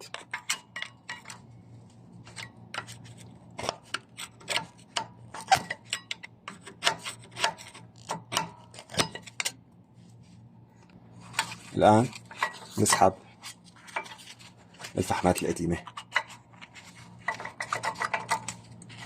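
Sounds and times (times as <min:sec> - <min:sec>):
metal clicks and scrapes: 0:00.0 - 0:01.6, 0:02.2 - 0:09.6, 0:11.2 - 0:19.0.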